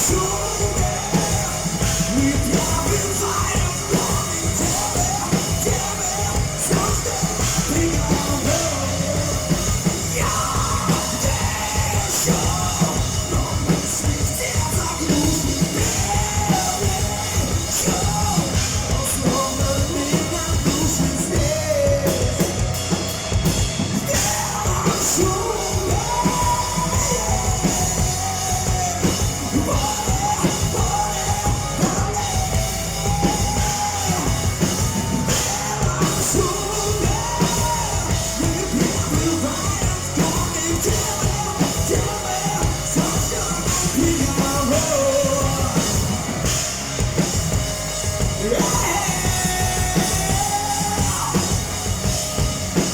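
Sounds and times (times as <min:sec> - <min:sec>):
person singing: 0:00.0 - 0:22.9, 0:24.0 - 0:46.6, 0:48.2 - 0:52.0
rock band playing live: 0:00.0 - 0:52.9.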